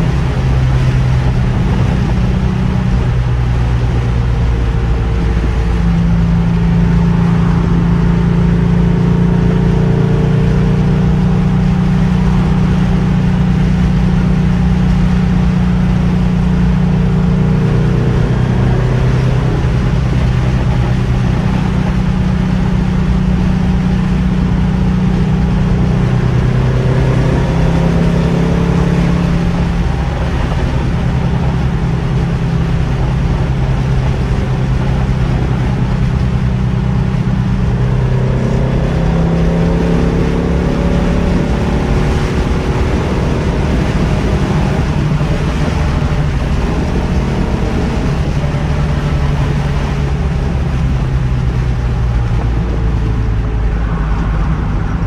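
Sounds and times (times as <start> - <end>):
car engine running: 0.0 - 55.0
road noise: 0.0 - 55.0.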